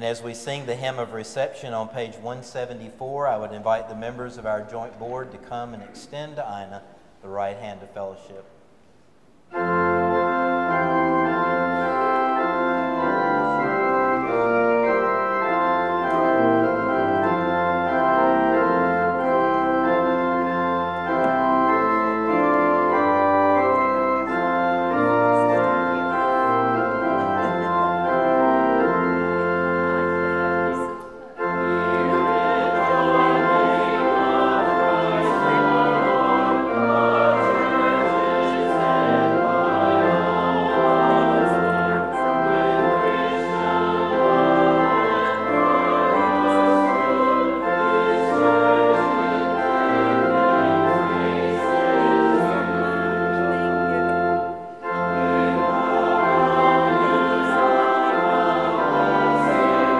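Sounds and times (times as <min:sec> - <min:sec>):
pipe organ chords: 0:00.0 - 0:08.4, 0:09.0 - 0:59.9
congregation singing a hymn: 0:09.5 - 0:59.9.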